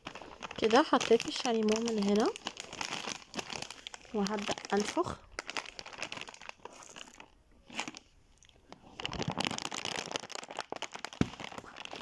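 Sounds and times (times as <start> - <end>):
foil packaging crinkling: 0.0 - 12.0.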